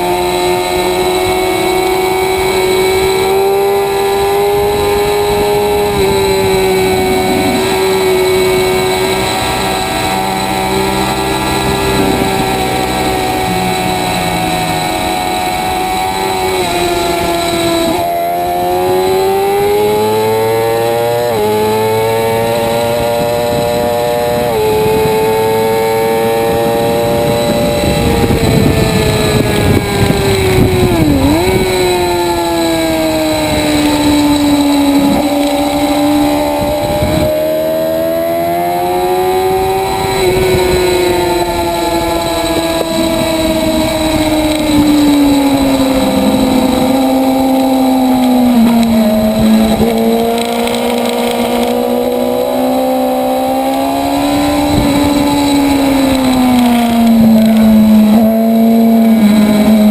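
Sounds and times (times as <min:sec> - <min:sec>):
motorcycle engine at high revs: 0:00.0 - 0:59.9
wind noise: 0:00.0 - 0:59.9.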